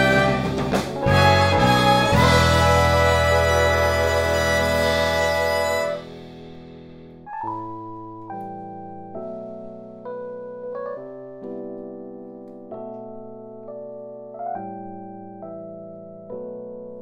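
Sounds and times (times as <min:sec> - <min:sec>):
jazz keyboard chords with bass: 0:00.0 - 0:17.0.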